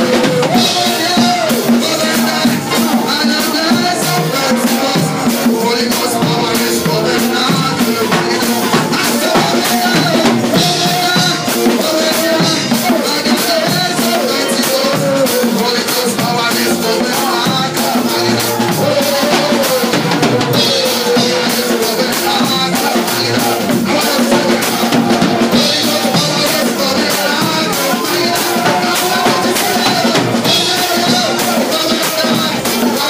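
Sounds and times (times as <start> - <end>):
amplified singing: 0.0 - 33.0
drum kit beat: 0.0 - 33.0.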